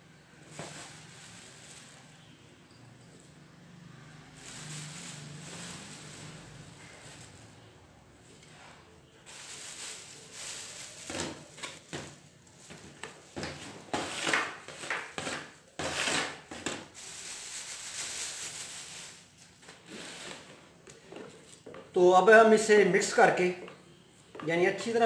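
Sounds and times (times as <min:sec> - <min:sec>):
plastic bag rustling: 0:00.3 - 0:03.0, 0:03.8 - 0:07.8, 0:08.4 - 0:22.4.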